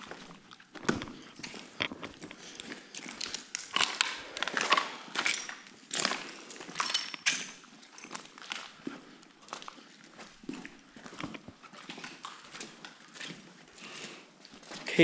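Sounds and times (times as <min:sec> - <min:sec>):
footsteps crunching over debris: 0:00.0 - 0:15.0.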